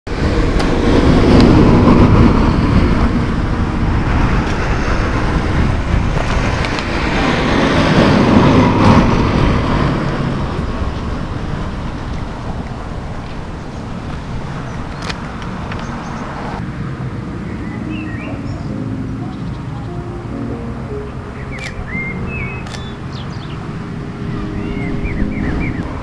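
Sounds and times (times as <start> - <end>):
road traffic passing: 0.1 - 26.0.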